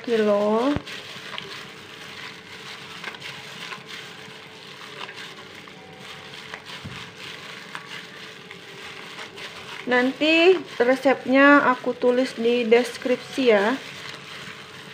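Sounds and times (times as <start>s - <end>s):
wet squishing of fish paste: 0.0s - 13.0s, 13.7s - 14.9s
plastic glove rustling: 0.0s - 14.9s.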